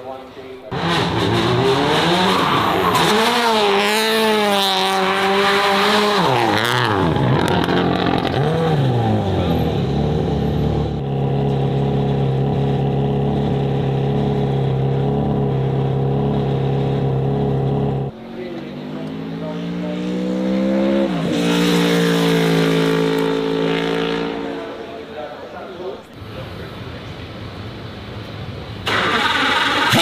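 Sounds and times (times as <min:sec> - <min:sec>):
car engine revving: 0:00.7 - 0:26.4, 0:28.7 - 0:30.0.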